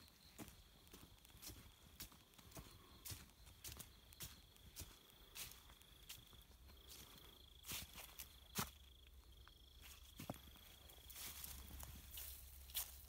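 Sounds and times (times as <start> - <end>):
footsteps on leaves and gravel: 0.0 - 9.2, 9.8 - 13.0.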